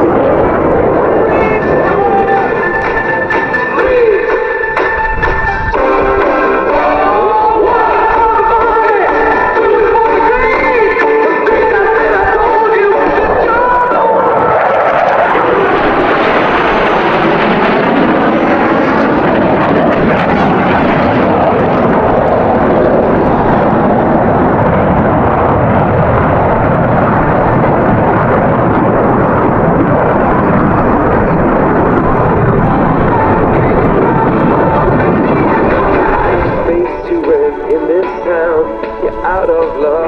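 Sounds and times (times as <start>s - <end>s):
jet fighters flying past: 0.0s - 40.0s.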